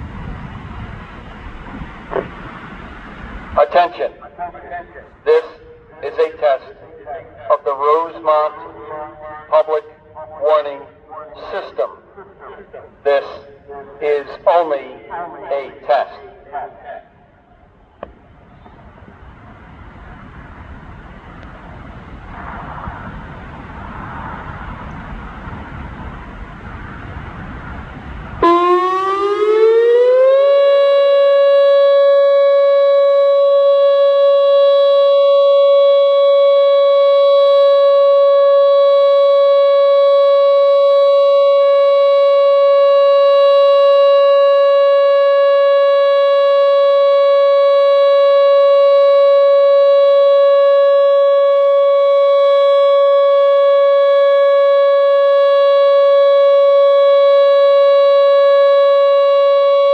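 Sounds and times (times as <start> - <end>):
electronic tornado siren: 0.0 - 59.9.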